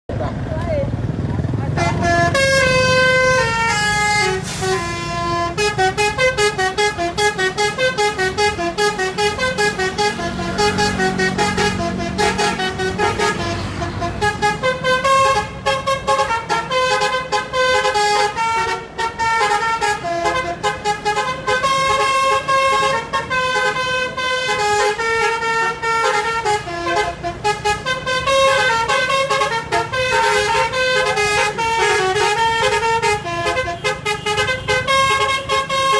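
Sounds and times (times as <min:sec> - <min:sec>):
multi-tone bus horn melody: 0:01.7 - 0:35.9.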